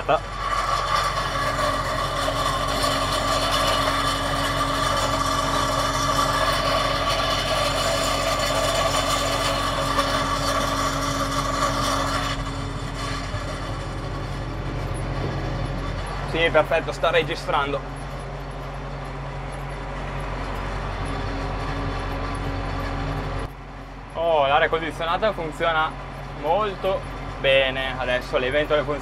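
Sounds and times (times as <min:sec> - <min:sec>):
tractor engine under load: 0:00.0 - 0:29.0.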